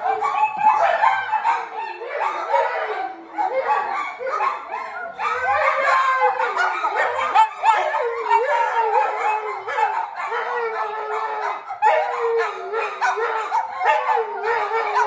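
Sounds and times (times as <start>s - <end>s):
small dogs howling: 0.0s - 15.0s.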